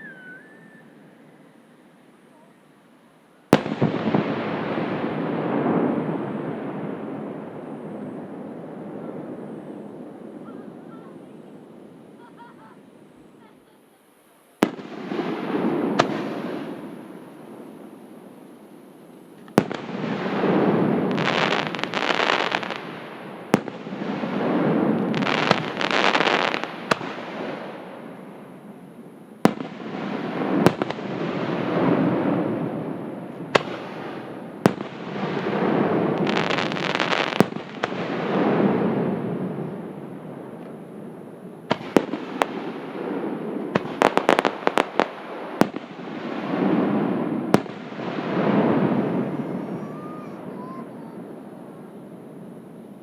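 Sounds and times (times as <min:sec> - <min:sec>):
firework crackling: 0:00.0 - 0:53.0.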